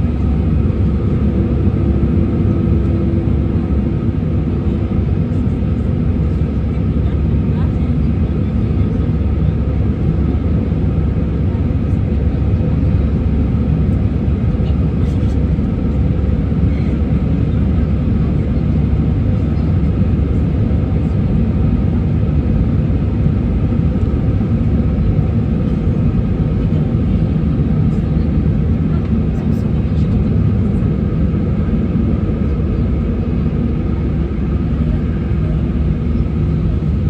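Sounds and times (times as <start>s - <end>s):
airliner engine rumble in cabin: 0.0s - 37.0s.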